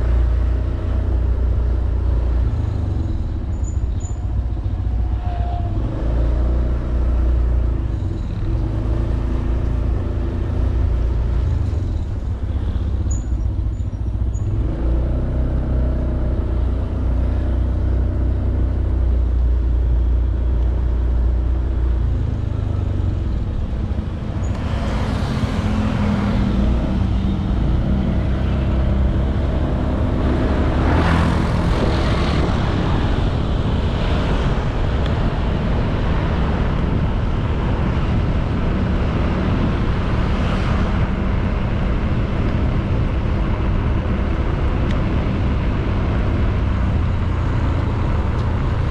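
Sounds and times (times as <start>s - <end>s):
passing traffic rushing: 0.0s - 48.9s
road noise: 0.0s - 48.9s.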